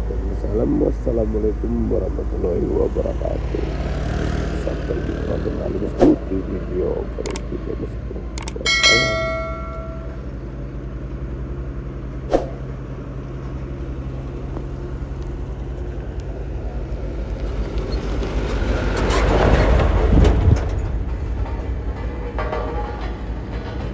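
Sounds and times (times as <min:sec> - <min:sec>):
loud vehicle noise: 0:02.3 - 0:22.3.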